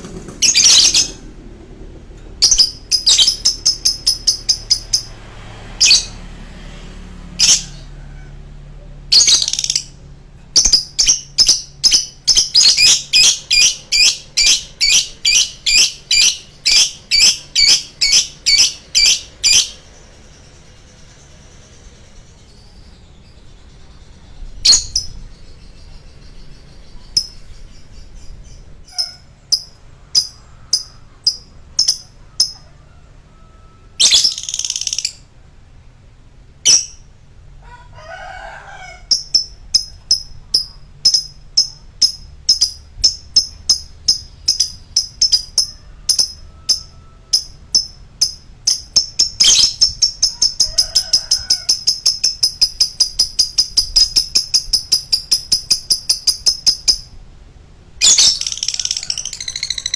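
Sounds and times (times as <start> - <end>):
lovebird chirping: 0.0 - 1.5, 2.2 - 5.2, 9.1 - 35.4, 36.6 - 37.2, 39.0 - 57.2, 58.0 - 59.9.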